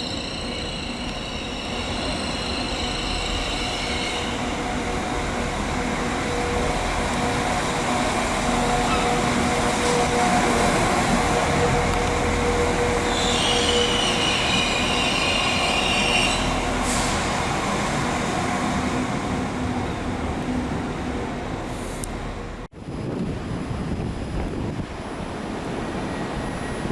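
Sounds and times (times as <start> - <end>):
wheels squealing on rails: 0.0 - 20.6, 25.1 - 26.9
train humming: 0.0 - 26.9.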